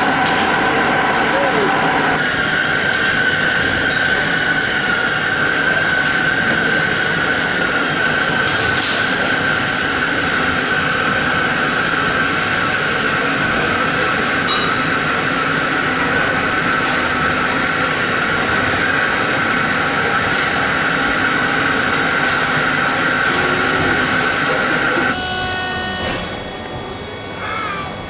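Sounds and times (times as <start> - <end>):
lathe machining a wheel: 0.0 - 28.0.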